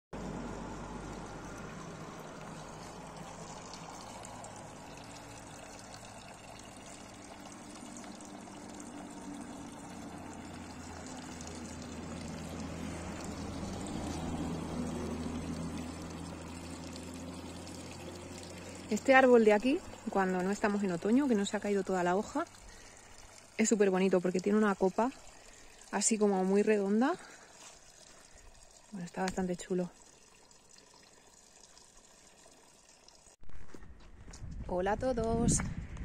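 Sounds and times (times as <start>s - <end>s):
low steady hum: 0.2s - 32.6s
fountain water splashing: 0.2s - 33.3s.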